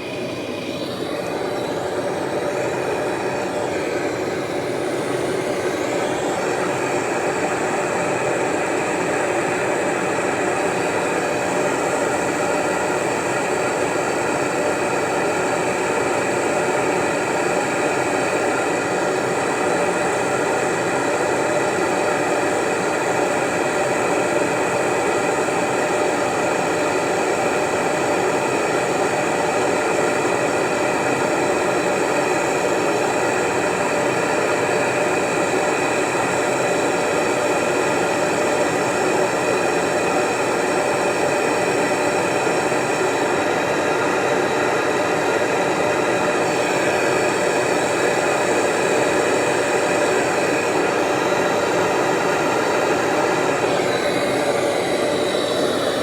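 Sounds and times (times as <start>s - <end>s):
machine whirring and hissing: 0.0s - 56.0s.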